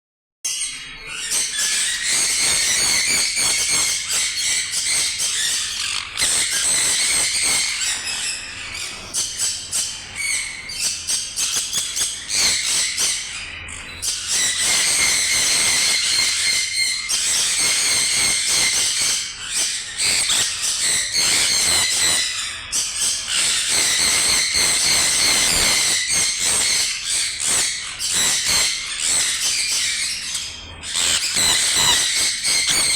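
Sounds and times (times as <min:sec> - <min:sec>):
parrot high-pitched calls: 0:00.5 - 0:32.9.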